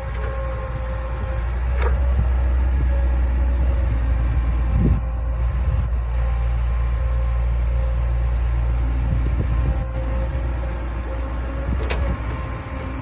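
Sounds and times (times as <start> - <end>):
heavy diesel machinery rumbling: 0.0 - 13.0.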